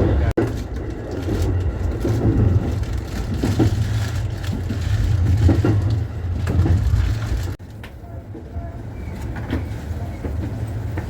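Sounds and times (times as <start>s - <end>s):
rattling inside train: 0.0s - 11.0s
train wheels rumbling on rail: 0.0s - 11.0s.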